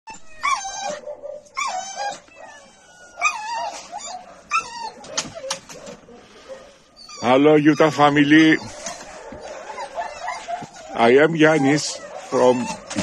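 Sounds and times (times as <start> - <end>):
young animal whining cries: 0.1 - 13.0.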